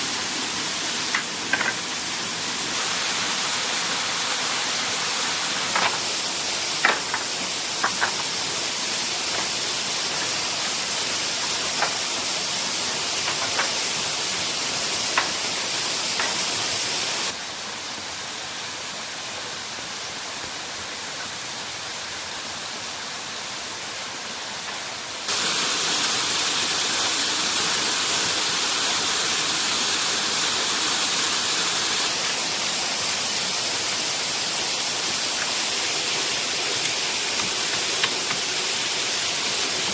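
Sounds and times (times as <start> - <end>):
waterfall rushing: 0.0 - 18.5, 25.3 - 39.9.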